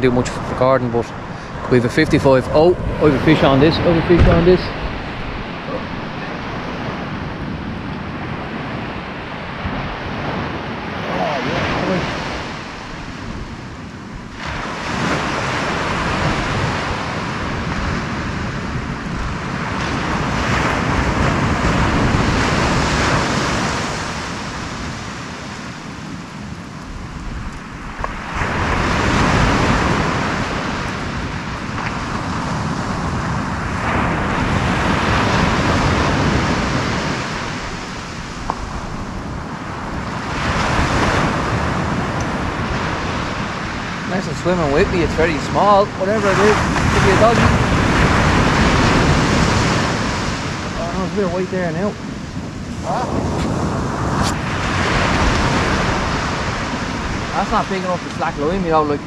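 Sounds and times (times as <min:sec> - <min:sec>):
surf breaking on beach: 0:00.0 - 0:59.0
wind rumbling on microphone: 0:00.0 - 0:59.0.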